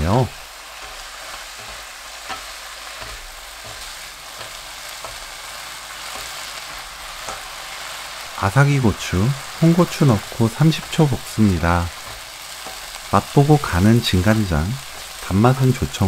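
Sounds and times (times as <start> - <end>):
utensil tapping pan: 0.0 - 16.0
vegetables sizzling in oil: 0.0 - 16.0.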